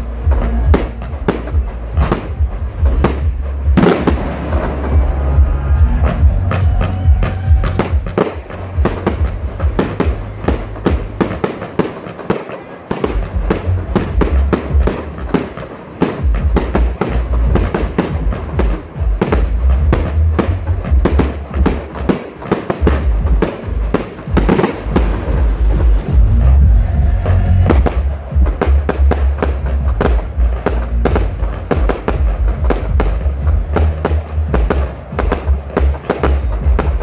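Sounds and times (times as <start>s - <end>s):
deep low rumble: 0.0s - 11.2s, 16.3s - 21.8s, 22.8s - 37.0s
fireworks bursts and crackling: 0.0s - 37.0s.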